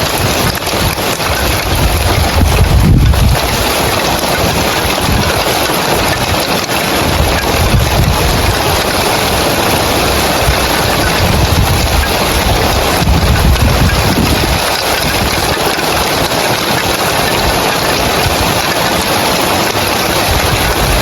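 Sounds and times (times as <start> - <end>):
heavy rain on roof tiles: 0.0 - 21.0.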